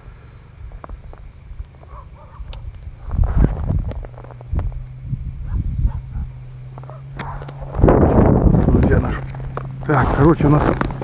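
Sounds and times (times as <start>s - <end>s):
wind rumble on microphone: 0.6s - 11.0s.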